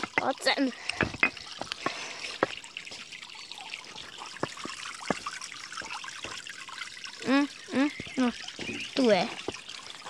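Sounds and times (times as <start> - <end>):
water drops plinking: 0.0 - 10.0
water trickling: 0.0 - 10.0.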